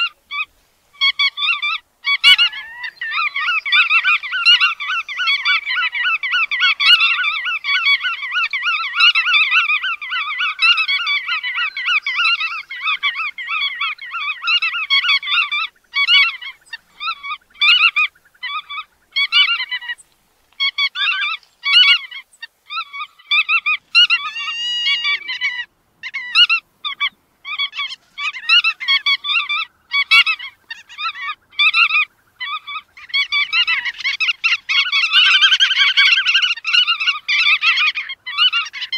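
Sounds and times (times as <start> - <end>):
godwits calling: 0.0 - 38.9.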